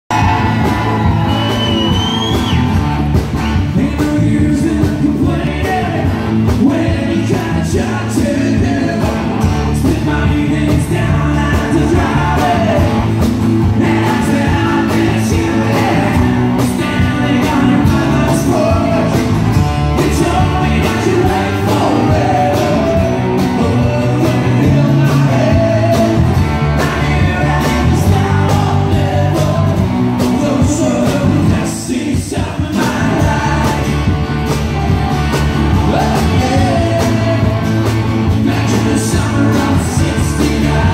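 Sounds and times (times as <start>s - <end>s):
drums: 0.0s - 40.9s
electric bass: 0.0s - 40.9s
electric guitars: 0.1s - 40.9s
man singing: 3.6s - 34.2s, 35.7s - 40.9s.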